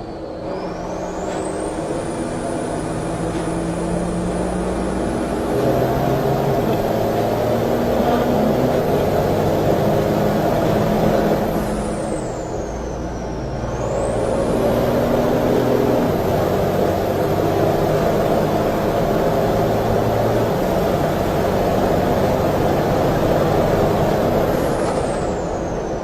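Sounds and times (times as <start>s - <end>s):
diesel engine running hard: 0.0s - 26.0s.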